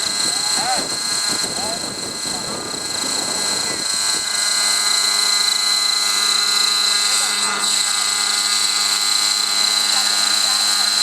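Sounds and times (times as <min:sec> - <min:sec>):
model helicopter engine whine: 0:00.0 - 0:11.0
rotor hum: 0:00.0 - 0:11.0.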